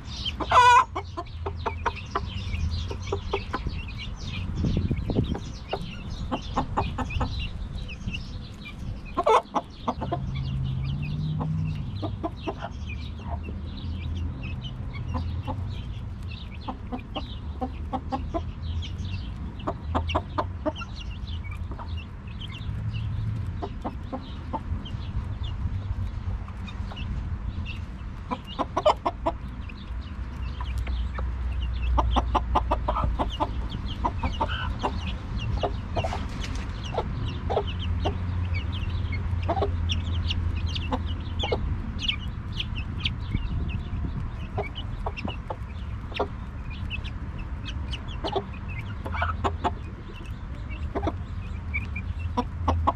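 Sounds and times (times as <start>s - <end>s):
hen clucking: 0.0s - 22.6s, 23.4s - 52.9s
chicks peeping: 0.0s - 52.9s.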